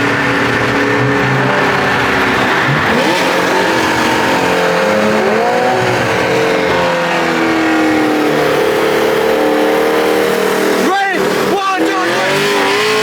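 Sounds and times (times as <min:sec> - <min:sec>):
performance car engines revving: 0:00.0 - 0:13.0.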